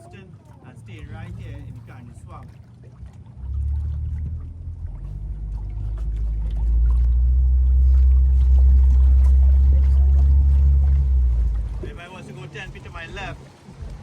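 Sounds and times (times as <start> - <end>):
boat motor droning: 0.0 - 14.0.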